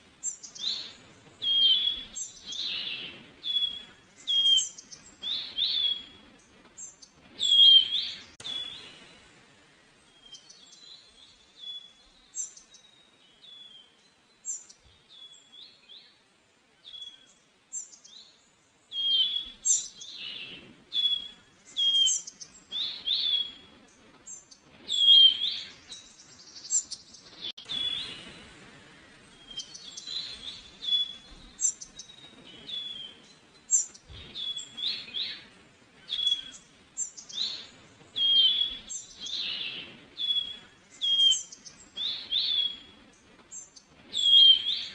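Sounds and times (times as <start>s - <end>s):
small songbirds chirping: 0.0s - 44.9s.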